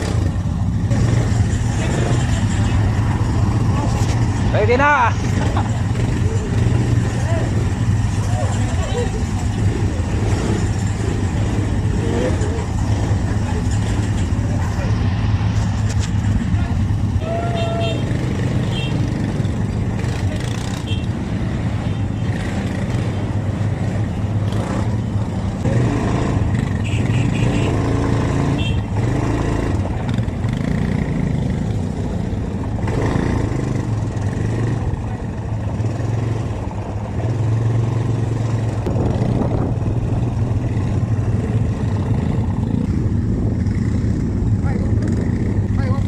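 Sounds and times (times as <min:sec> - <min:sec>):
quad bike engines idling: 0:00.0 - 0:25.8, 0:26.4 - 0:46.0.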